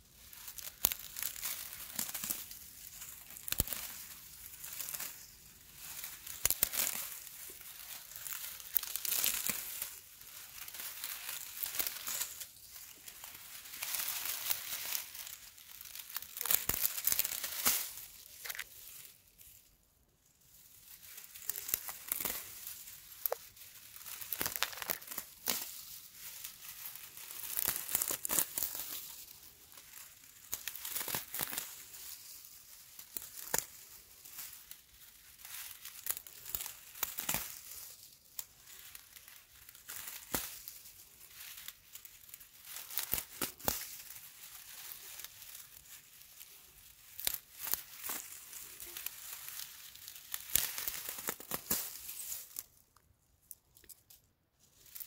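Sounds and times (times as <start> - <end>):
dry grass crackling and rustling: 0.0 - 55.0.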